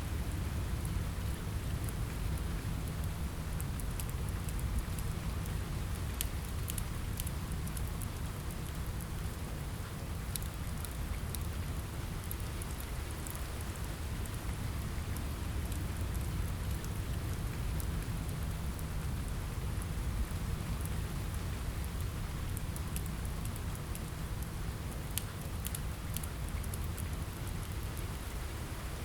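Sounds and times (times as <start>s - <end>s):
rain on a window: 0.0s - 29.0s.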